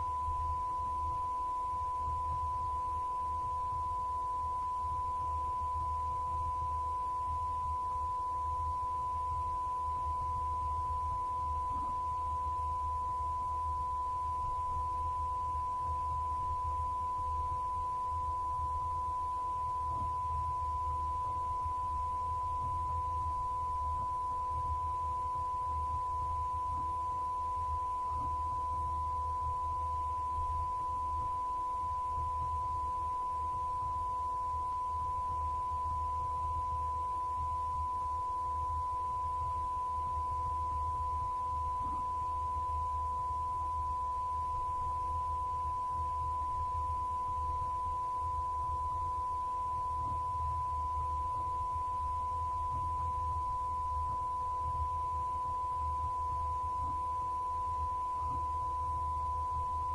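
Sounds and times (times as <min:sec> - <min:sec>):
fainter lower tone: 0:00.0 - 0:59.9
high-pitched sine test tone: 0:00.0 - 0:59.9
low hum: 0:00.0 - 0:59.9.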